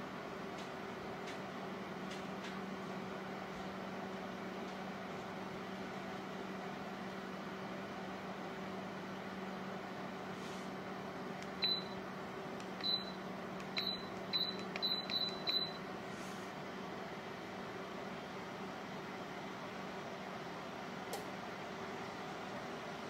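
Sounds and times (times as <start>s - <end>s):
heater fan humming: 0.0s - 23.0s.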